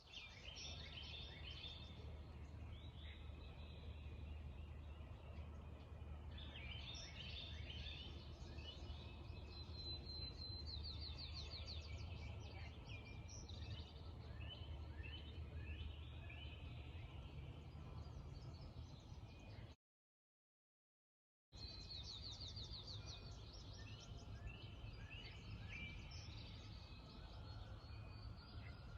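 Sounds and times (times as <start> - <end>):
birds singing: 0.0 - 19.8, 21.6 - 28.9.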